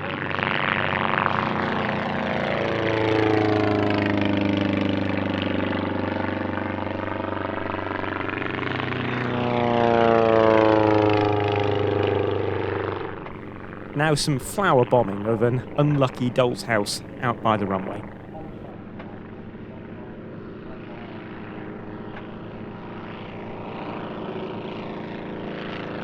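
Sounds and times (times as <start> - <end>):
propeller aircraft passing low: 0.0 - 26.0.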